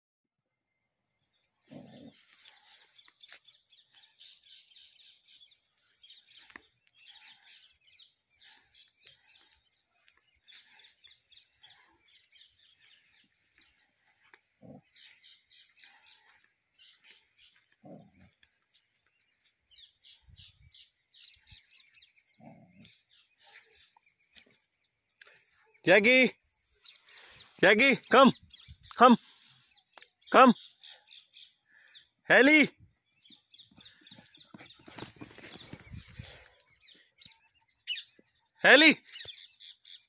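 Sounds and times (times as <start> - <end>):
small birds chirping: 0.7 - 40.0.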